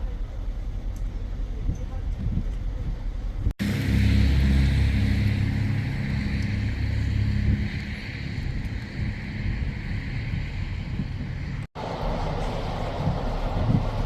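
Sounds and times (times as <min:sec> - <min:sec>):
car engine and road rumble: 0:00.0 - 0:14.0
tyre and wind hiss: 0:00.4 - 0:14.0.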